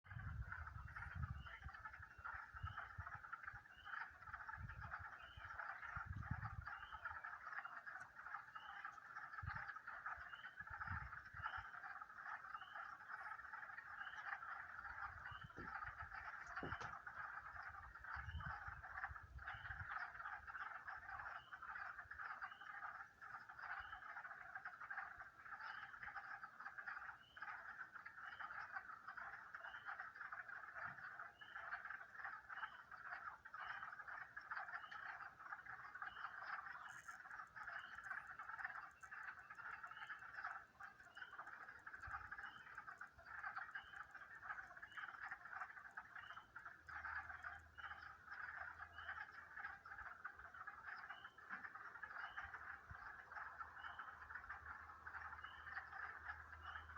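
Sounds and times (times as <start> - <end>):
chorus of animal calls: 0.1 - 56.9.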